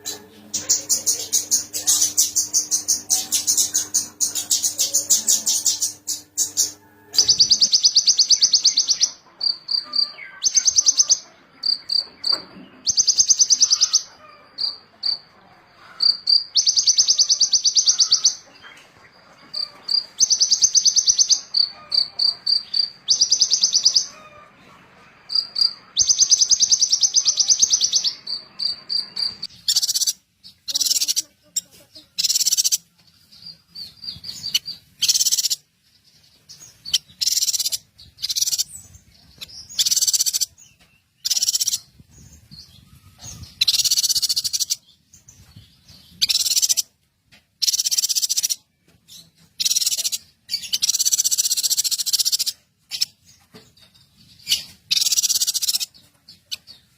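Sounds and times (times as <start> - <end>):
songbird buzzy trills: 0.0 - 47.0, 54.3 - 56.9.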